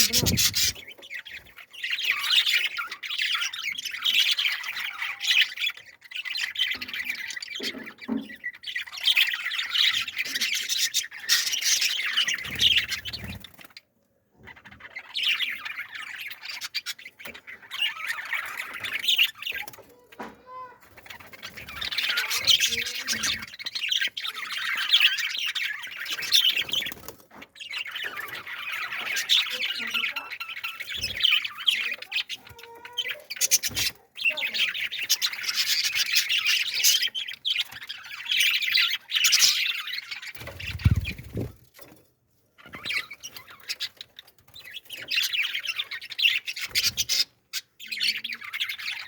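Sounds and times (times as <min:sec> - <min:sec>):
birds chirping and squawking: 0:00.0 - 0:49.0.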